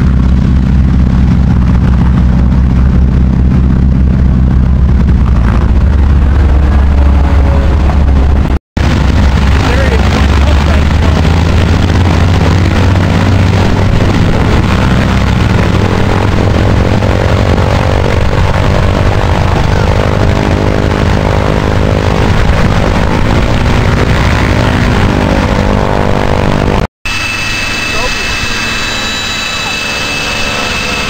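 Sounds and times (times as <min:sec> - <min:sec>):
propeller plane engine running: 0:00.0 - 0:31.0.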